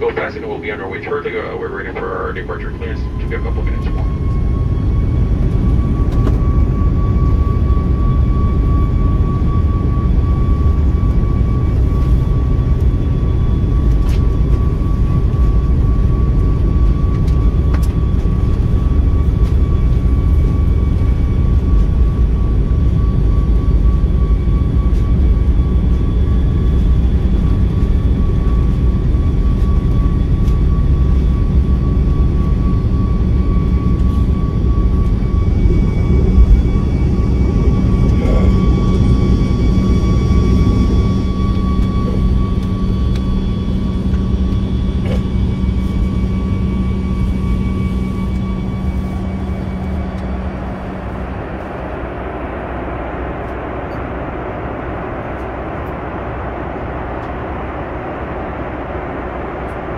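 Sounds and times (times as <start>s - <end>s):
jet engines idling rumble: 0.0s - 59.9s
steady high whine: 0.0s - 59.9s.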